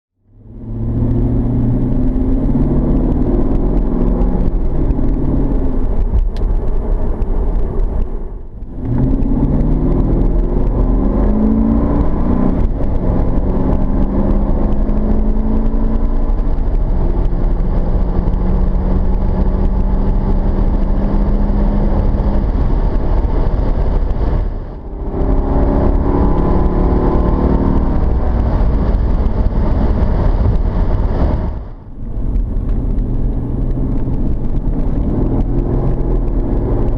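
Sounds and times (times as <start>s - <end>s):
muffled car engine revving: 0.2s - 36.9s.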